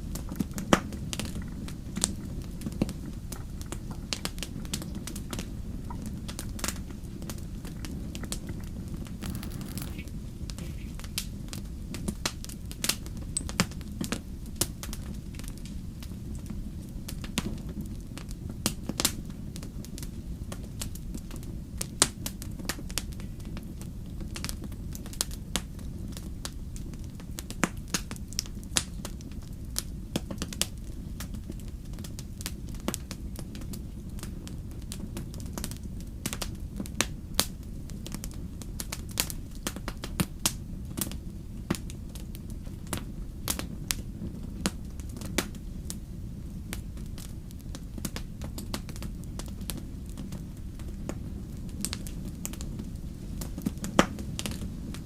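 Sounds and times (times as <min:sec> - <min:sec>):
low murmur of flames: 0:00.0 - 0:09.8, 0:10.7 - 0:55.0.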